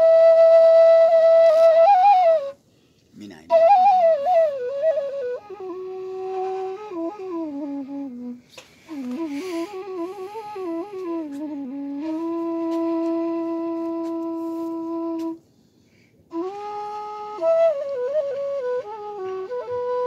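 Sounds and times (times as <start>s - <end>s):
bamboo flute melody: 0.0s - 15.5s, 16.3s - 20.0s.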